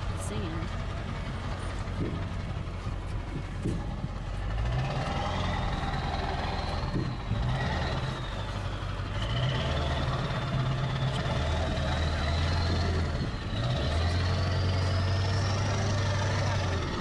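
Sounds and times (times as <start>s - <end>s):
truck engine driving over sand: 0.0s - 17.0s.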